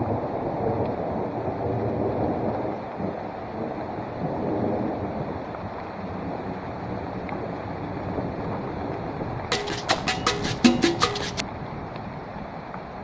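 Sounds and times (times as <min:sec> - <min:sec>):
steady rain in woodland: 0:00.0 - 0:09.6, 0:11.4 - 0:13.0.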